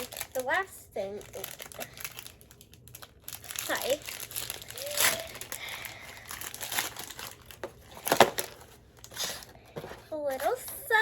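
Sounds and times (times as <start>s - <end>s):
packaging bag crinkling: 0.0s - 9.6s.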